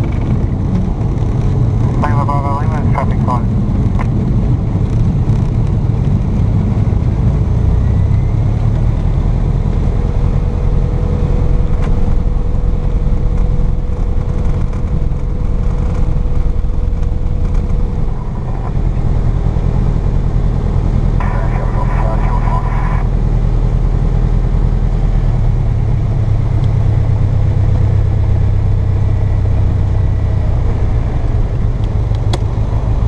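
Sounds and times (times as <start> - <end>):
airplane engine and propeller: 0.0 - 33.0.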